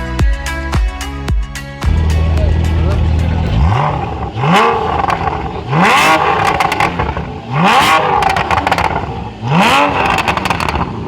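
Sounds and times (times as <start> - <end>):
car engine revving: 1.8 - 11.0
exhaust crackles and pops: 1.9 - 11.0.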